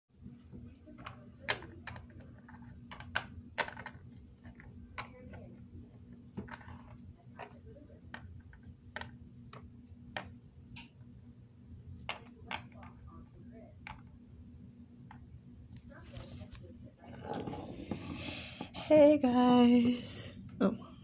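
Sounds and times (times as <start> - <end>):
steady low hum: 0.1 - 21.0.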